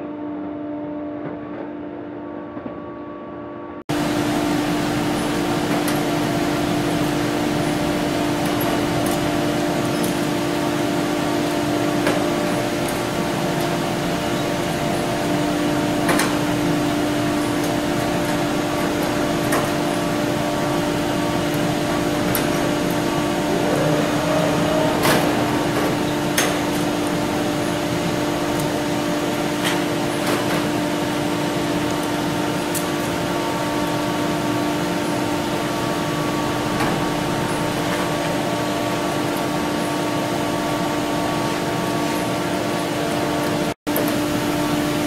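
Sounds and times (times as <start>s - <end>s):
mechanical hum: 0.0s - 45.0s.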